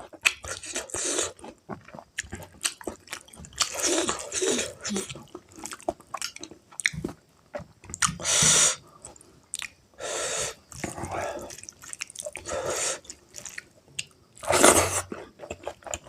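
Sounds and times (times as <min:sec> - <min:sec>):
close chewing with mouth clicks: 0:00.0 - 0:09.8, 0:10.5 - 0:16.0.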